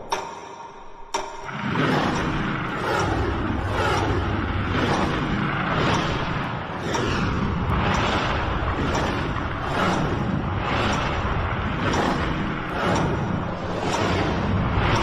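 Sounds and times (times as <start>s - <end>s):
steady low rumble: 1.5s - 15.0s.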